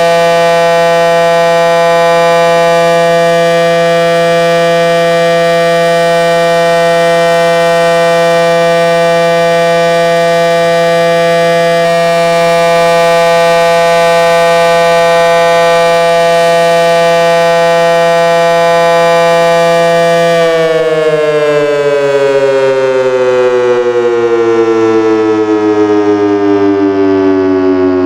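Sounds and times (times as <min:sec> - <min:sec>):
siren wailing and winding down: 0:00.0 - 0:28.0.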